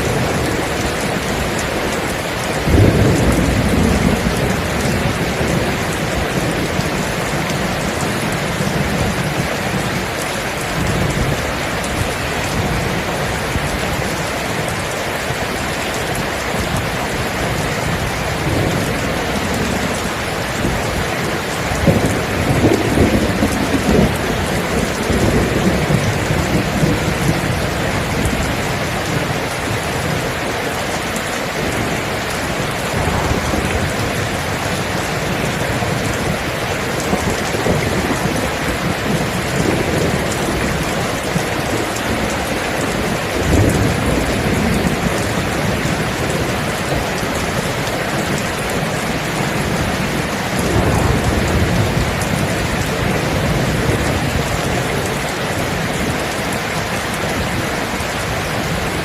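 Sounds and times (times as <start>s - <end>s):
thunder rumbling: 0.0s - 47.4s, 48.1s - 56.3s
steady rain falling: 0.0s - 59.0s.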